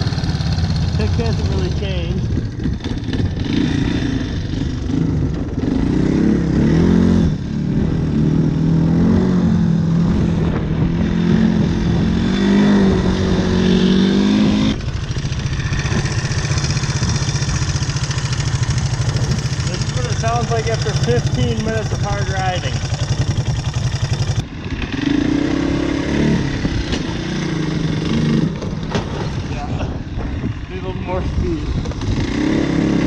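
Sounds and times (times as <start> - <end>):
engine revving: 0.0 - 33.0.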